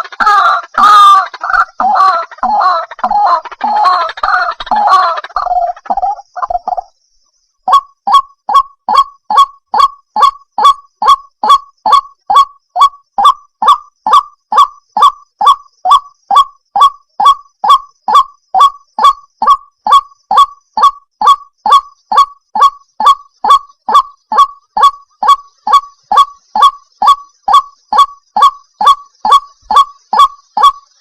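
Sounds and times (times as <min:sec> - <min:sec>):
waterhen calling repeated notes: 0:00.0 - 0:31.0.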